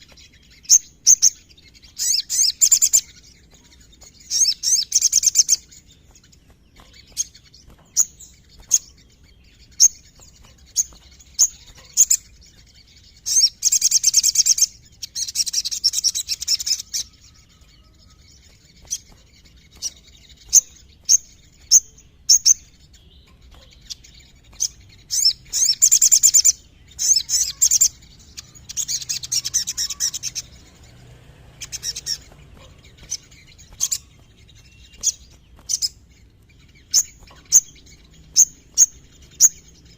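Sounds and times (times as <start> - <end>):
bird chirping: 0.0 - 39.9
fast rolling bird trills: 0.0 - 39.9.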